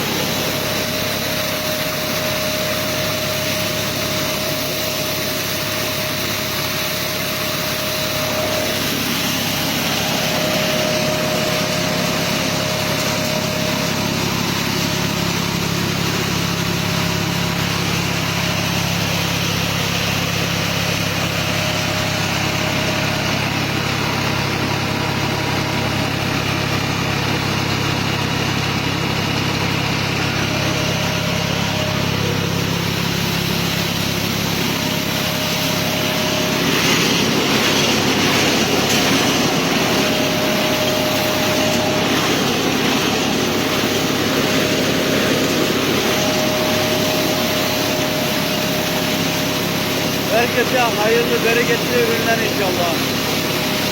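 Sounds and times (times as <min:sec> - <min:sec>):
harvesting machine engine hum: 0:00.0 - 0:53.9.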